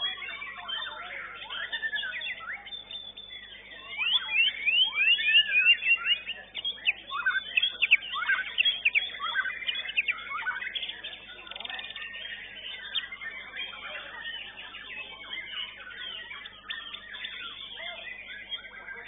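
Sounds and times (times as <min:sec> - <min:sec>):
birds singing whistled notes: 0:00.0 - 0:19.0.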